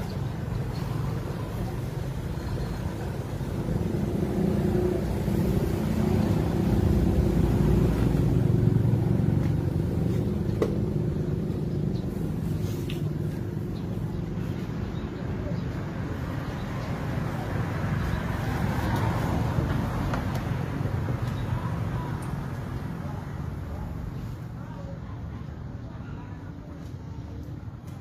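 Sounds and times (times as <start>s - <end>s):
vehicle engine rumbling: 0.0s - 24.6s.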